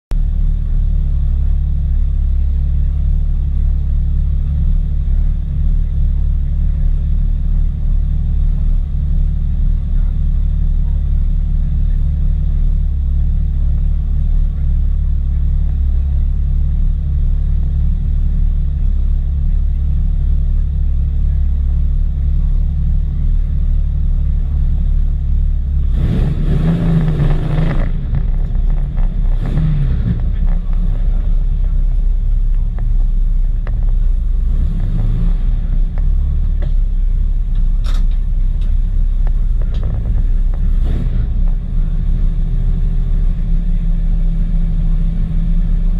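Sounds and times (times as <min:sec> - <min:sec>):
race car engine droning: 0:00.1 - 0:45.9.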